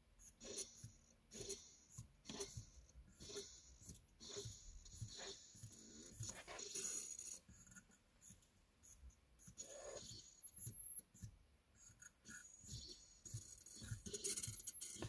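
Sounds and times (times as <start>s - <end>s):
motor buzzes and ticks: 0.2s - 15.0s.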